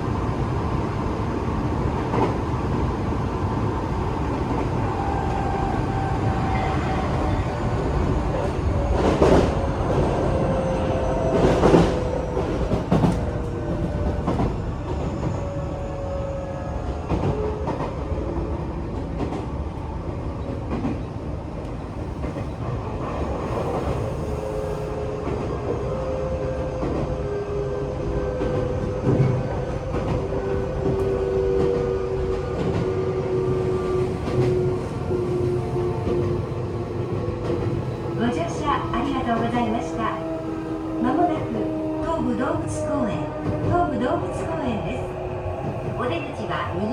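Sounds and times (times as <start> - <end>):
electric train rumble: 0.0 - 46.9.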